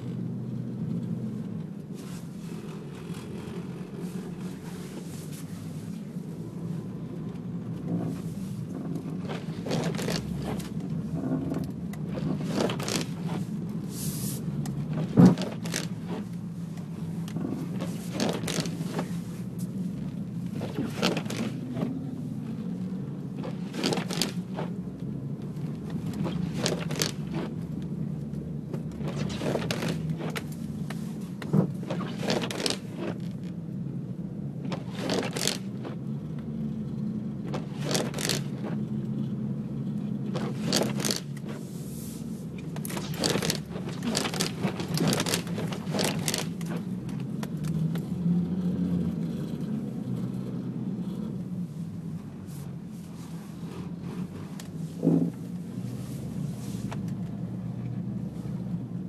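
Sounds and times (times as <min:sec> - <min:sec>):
truck engine under load: 0:00.0 - 0:59.0.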